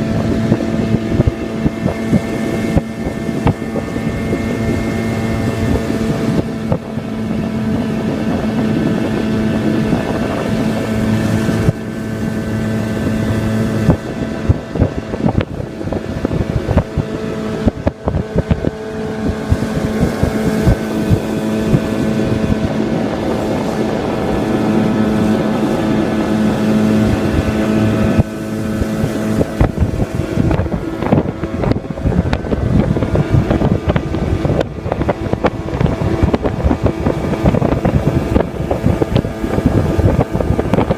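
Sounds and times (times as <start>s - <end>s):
outboard motor running: 0.0s - 40.9s
wind buffeting microphone: 0.0s - 40.9s.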